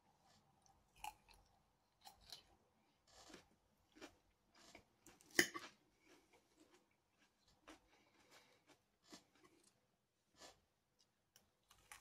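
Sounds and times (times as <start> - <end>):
chewing crunchy salad: 0.2 - 12.0.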